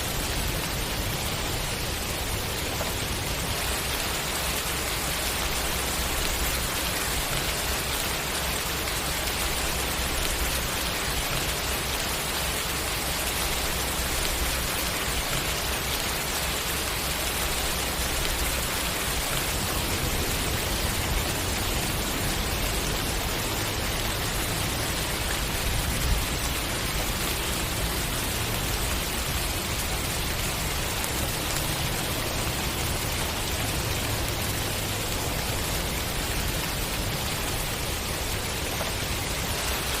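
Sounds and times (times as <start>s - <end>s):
steady rain hissing: 0.0s - 40.0s.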